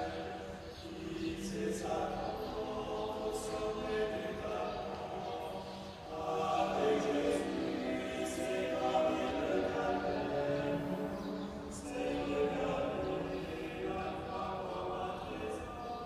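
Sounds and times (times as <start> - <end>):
choir singing chant: 0.0 - 16.0.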